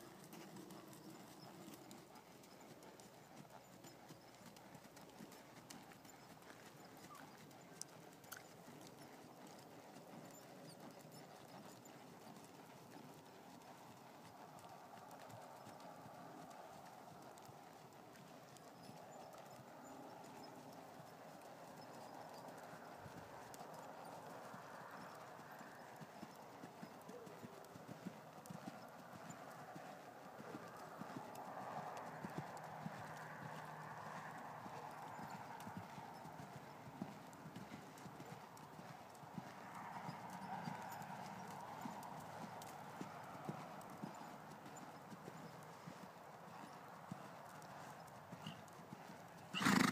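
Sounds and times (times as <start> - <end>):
hoofbeats on sand: 0.0 - 49.9.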